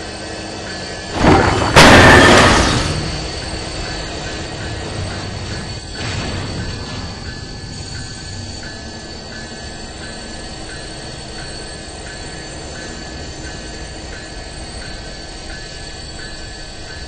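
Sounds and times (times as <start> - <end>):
high steady whining tones: 0.0 - 17.0
mechanical rumble: 0.9 - 16.8.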